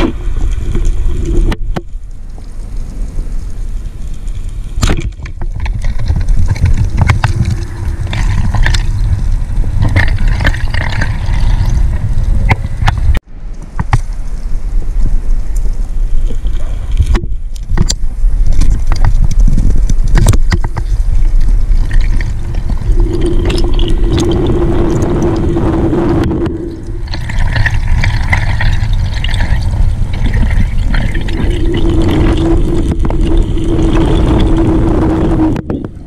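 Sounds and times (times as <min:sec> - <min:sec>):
water rushing underwater: 0:00.0 - 0:36.0.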